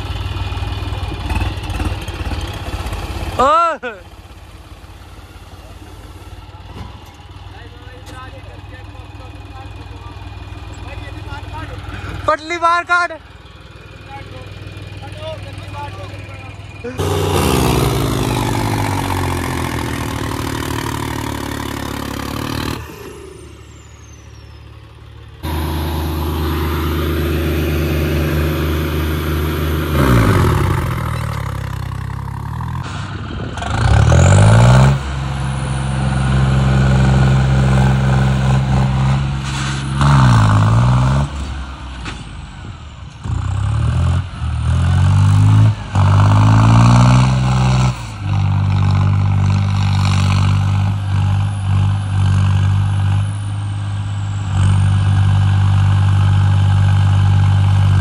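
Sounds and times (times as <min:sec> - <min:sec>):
tractor diesel engines revving: 0:00.0 - 0:58.0.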